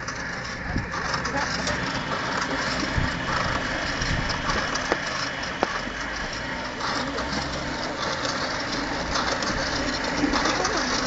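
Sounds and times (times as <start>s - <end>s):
hose pump running: 0.0s - 11.0s.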